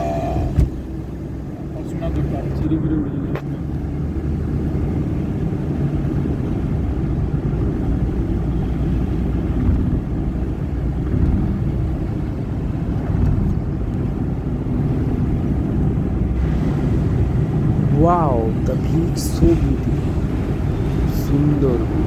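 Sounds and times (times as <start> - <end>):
car engine and road noise rumble: 0.0 - 22.0.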